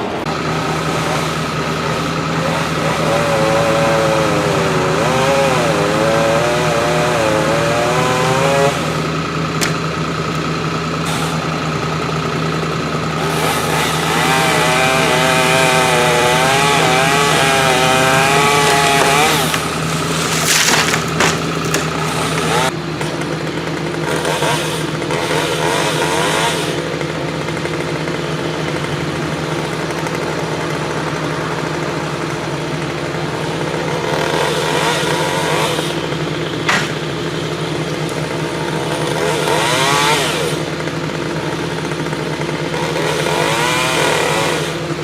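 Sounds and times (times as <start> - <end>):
diesel engine idling: 0.0 - 5.1, 5.8 - 43.9
chainsaw cutting wood: 0.0 - 45.0.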